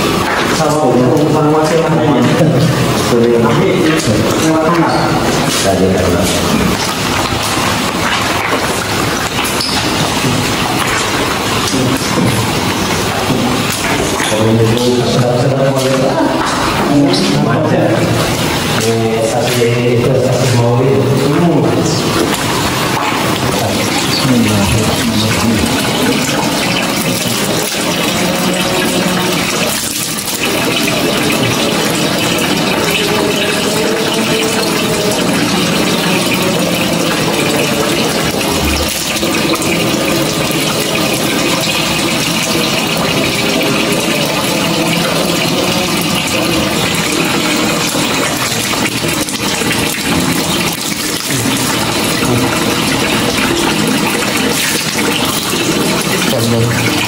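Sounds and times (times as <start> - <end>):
water gushing and splashing: 0.0 - 57.0.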